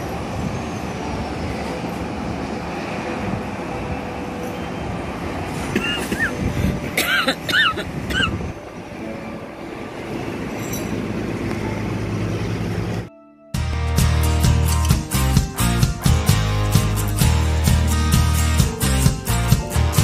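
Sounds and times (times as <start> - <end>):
expressway traffic rumble: 0.0 - 20.0.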